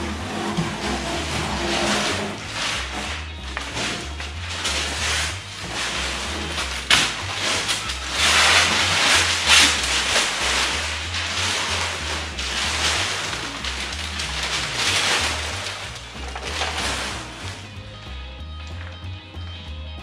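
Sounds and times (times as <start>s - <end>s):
tape ripping: 0.0s - 17.8s
paper and tape crackling: 0.0s - 19.1s
music with bass line: 0.0s - 20.0s.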